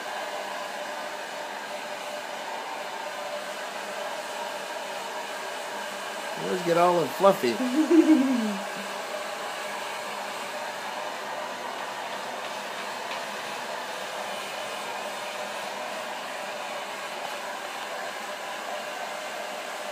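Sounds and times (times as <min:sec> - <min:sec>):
hair dryer running: 0:00.0 - 0:19.9.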